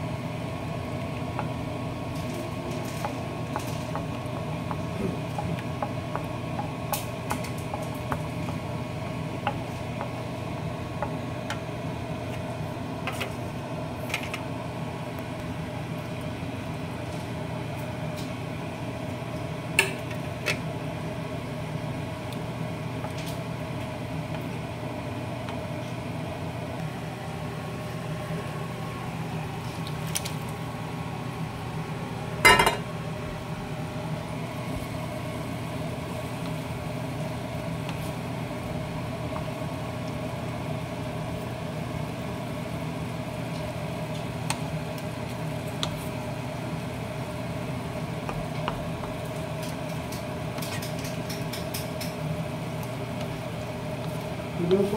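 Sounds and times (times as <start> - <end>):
sauce simmering: 0.0 - 54.8
low machine hum: 0.0 - 54.9.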